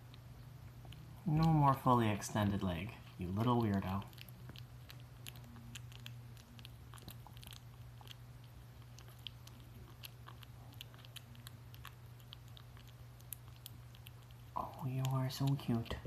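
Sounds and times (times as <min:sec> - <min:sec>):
kitten chewing wet food: 0:00.0 - 0:16.0.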